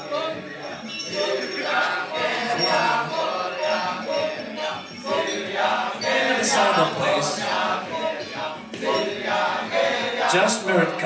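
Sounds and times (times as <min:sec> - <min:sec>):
bells jingling: 0:00.0 - 0:11.0
chorus of voices chanting: 0:00.0 - 0:11.0.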